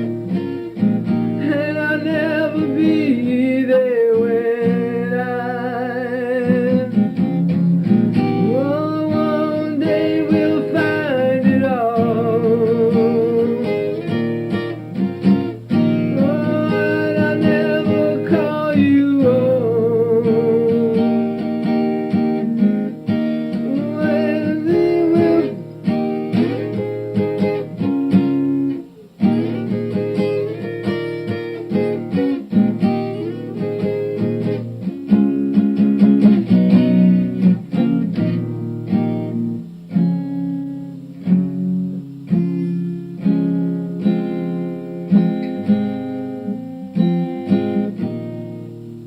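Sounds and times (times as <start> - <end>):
acoustic guitar music: 0.0 - 49.0.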